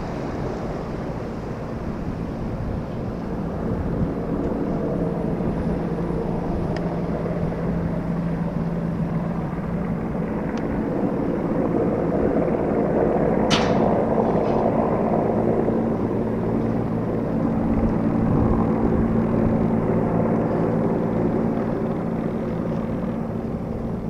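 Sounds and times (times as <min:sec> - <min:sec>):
helicopter rotor and turbine drone: 0:00.0 - 0:24.0.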